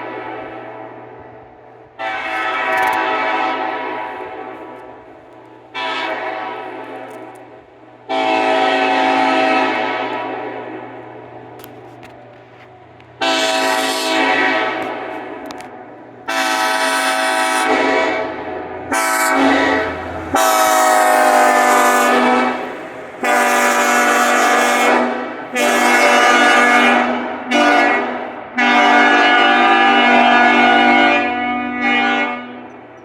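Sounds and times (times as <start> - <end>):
locomotive air horn blasts: 2.0 - 5.0, 5.7 - 7.5, 8.1 - 11.0, 13.2 - 33.0.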